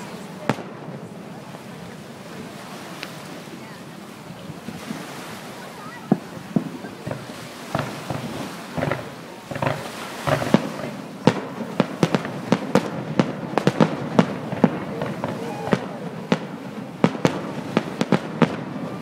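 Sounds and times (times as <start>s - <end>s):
fireworks bursting: 0.0s - 3.4s, 5.6s - 19.0s.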